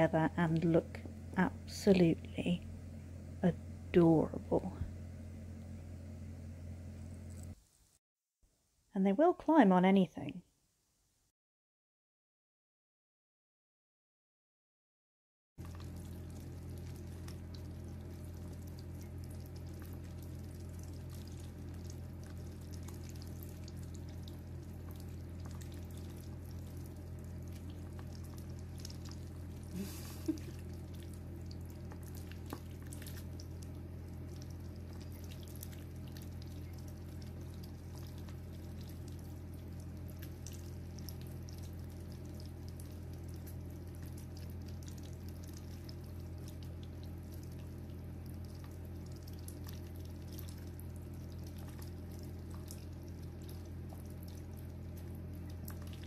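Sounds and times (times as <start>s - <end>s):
low steady hum: 0.0s - 8.0s, 15.6s - 56.0s.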